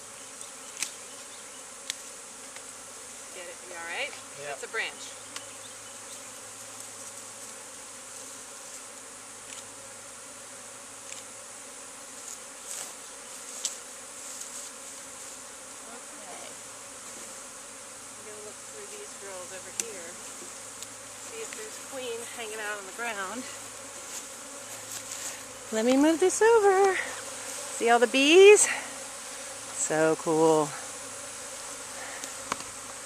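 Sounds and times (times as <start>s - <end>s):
bee swarm buzzing: 0.0s - 33.0s.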